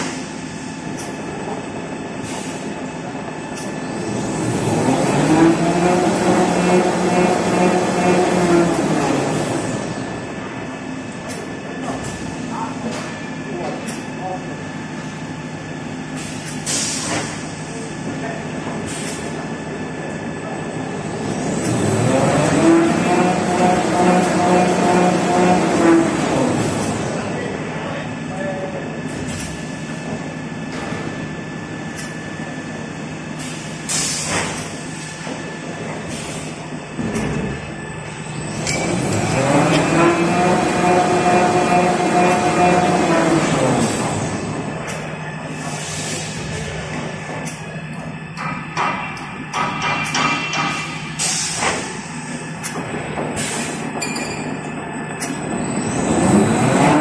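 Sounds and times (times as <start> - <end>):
machine rumble and hum: 0.0 - 57.0.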